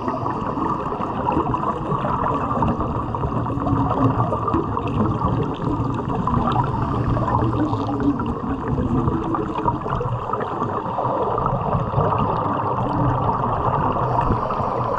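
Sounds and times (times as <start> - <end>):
underwater bubbling and crackling: 0.0 - 14.9.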